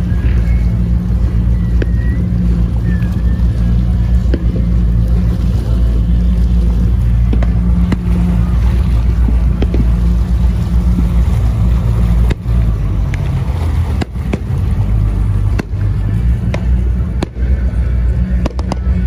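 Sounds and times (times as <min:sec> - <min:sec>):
motorboat engine running: 0:00.0 - 0:19.0
water rushing past: 0:00.0 - 0:19.0.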